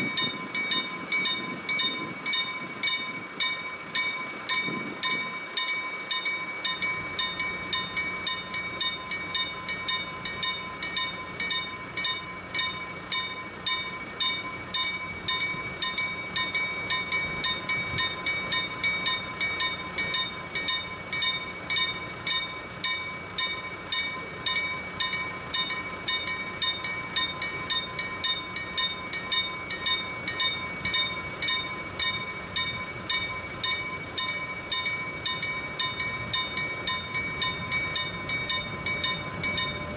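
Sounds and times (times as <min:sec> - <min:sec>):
level crossing bell ringing: 0:00.0 - 0:39.9
train wagons rumbling past: 0:00.0 - 0:39.9.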